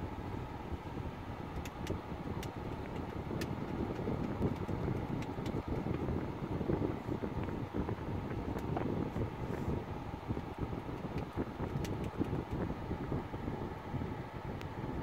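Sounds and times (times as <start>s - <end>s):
low rumble of car cabin: 0.0s - 15.0s.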